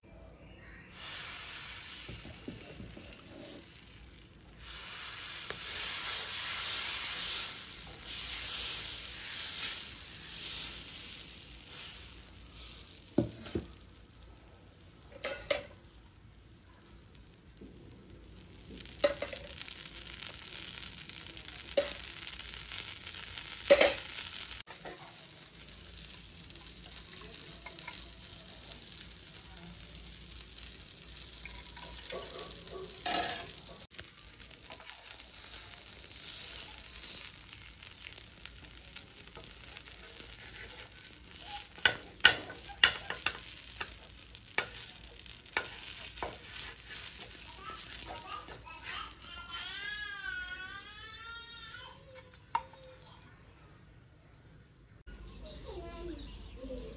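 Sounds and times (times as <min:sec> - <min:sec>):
batter sizzling on a griddle: 0:00.4 - 0:55.1
spatula scraping and tapping griddle: 0:01.0 - 0:14.2, 0:15.0 - 0:16.0, 0:18.5 - 0:29.5, 0:30.1 - 0:51.4.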